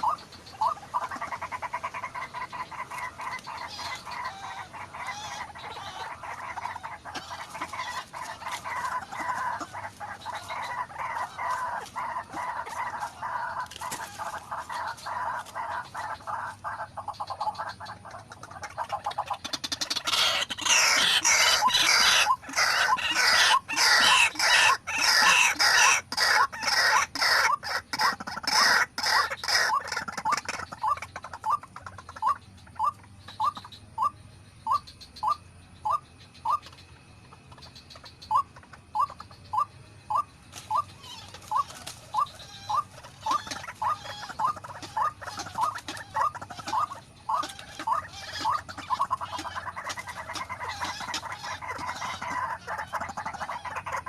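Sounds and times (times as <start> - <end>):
waterhens croaking calls: 0.0 - 54.0.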